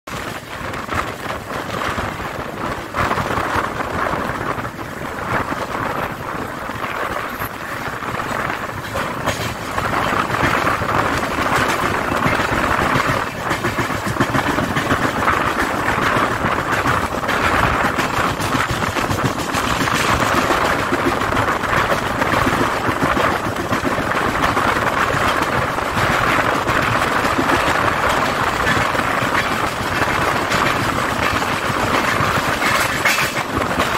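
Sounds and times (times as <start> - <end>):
train coaches running noise: 0.1 - 33.9
wheels clattering over rails: 0.1 - 33.9.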